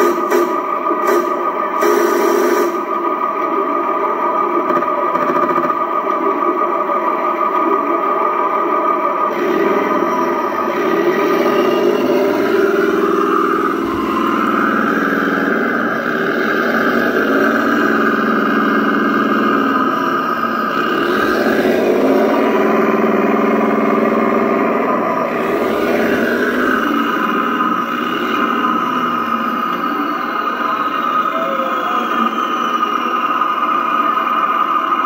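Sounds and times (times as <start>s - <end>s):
simulated tank engine from speaker: 0.0s - 35.0s.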